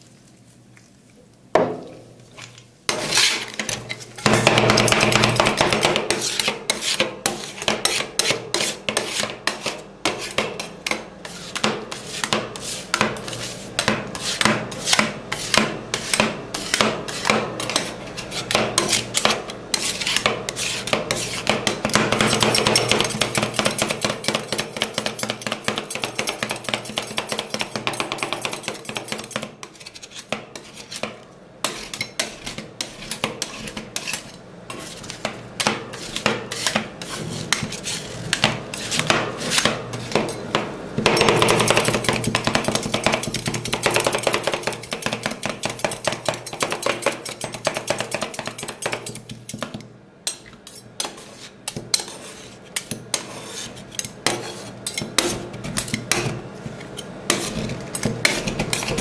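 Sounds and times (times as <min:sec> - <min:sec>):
metal spatulas tapping and scraping: 0:01.6 - 0:59.0.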